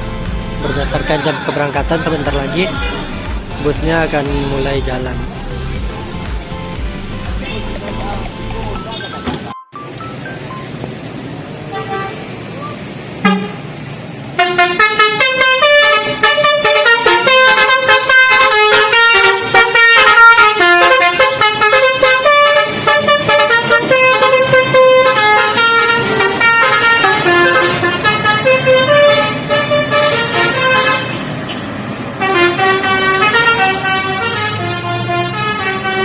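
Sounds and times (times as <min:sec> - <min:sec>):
multi-tone bus air horn melody: 0:00.0 - 0:09.3, 0:11.6 - 0:12.4, 0:13.2 - 0:13.8, 0:14.4 - 0:36.0.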